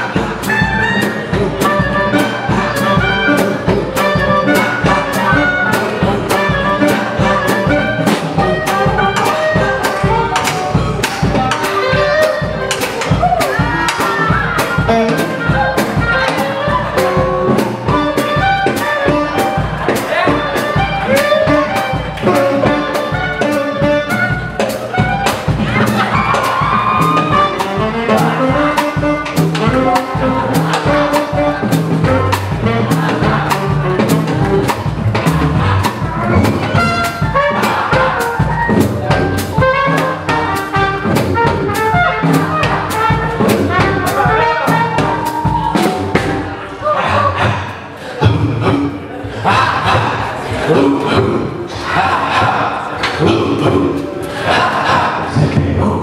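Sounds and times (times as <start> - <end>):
swing jazz band playing: 0.0 - 56.0.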